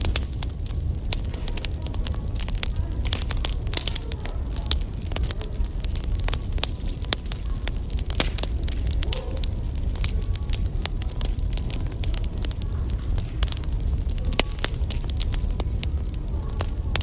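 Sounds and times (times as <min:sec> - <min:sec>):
firewood crackling and popping: 0:00.0 - 0:17.0
low fire rumble: 0:00.0 - 0:17.0.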